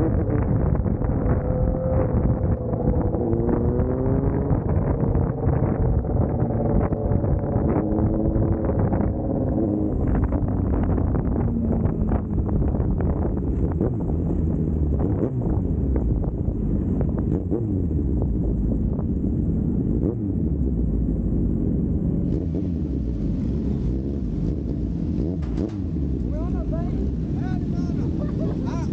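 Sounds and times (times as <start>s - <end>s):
motorcycle engine running: 0.0s - 28.9s
wind noise: 0.0s - 28.9s.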